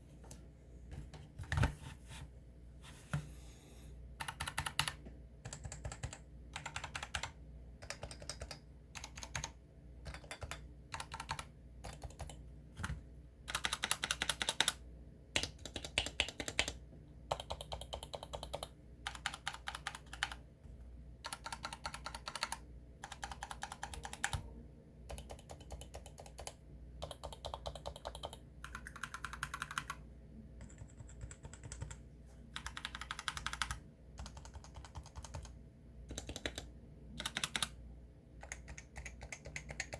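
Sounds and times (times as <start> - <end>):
keyboard typing: 4.2 - 14.8, 15.4 - 20.4, 21.2 - 24.4, 25.1 - 30.0, 30.6 - 37.8, 38.4 - 39.9.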